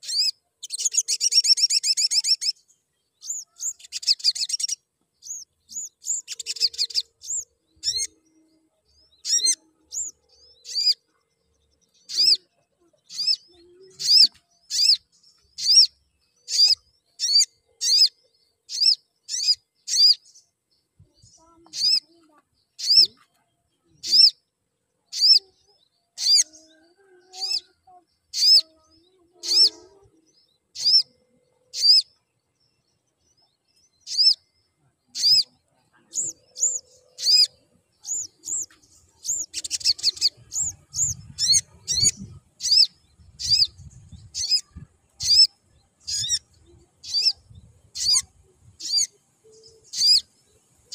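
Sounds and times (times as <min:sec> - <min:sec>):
sunbird high sharp chirps: 0:00.0 - 0:11.1, 0:11.8 - 0:20.5, 0:21.2 - 0:23.2, 0:24.0 - 0:24.4, 0:25.1 - 0:26.7, 0:27.4 - 0:32.2, 0:33.8 - 0:50.9.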